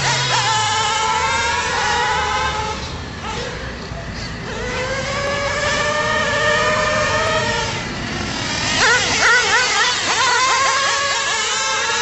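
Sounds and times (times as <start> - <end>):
small nitro engine revving: 0.0 - 12.0.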